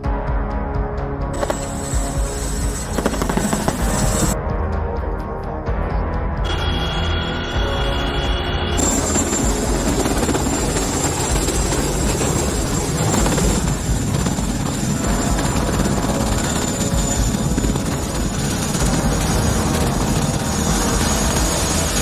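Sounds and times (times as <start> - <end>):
helicopter rotor rumble: 0.0 - 22.0
high turbine whine: 1.4 - 4.4, 6.4 - 22.0.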